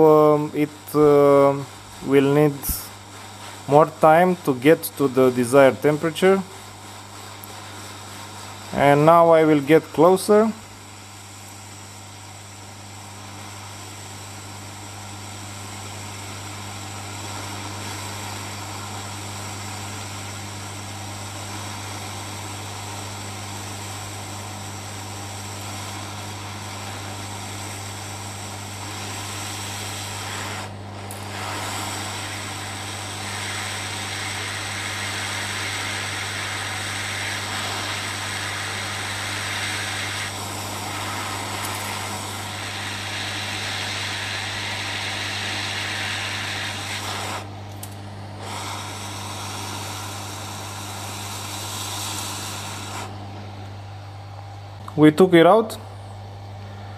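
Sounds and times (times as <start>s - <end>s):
hot-air station hissing: 0.0s - 56.9s.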